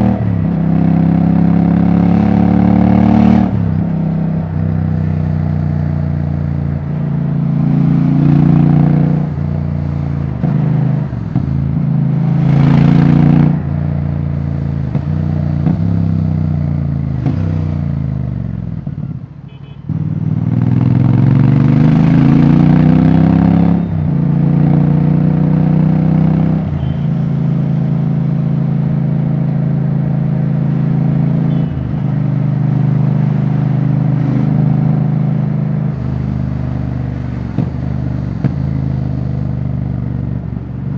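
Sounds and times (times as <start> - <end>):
motorcycle engine revving: 0.0 - 18.8, 19.9 - 40.9.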